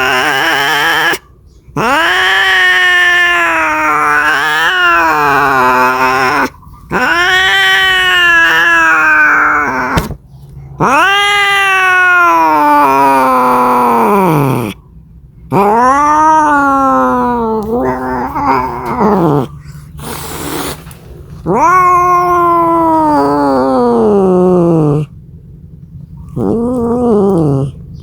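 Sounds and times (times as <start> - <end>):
cat yowling: 0.0 - 10.2, 10.8 - 14.8, 15.5 - 20.8, 21.4 - 25.2, 26.3 - 27.9.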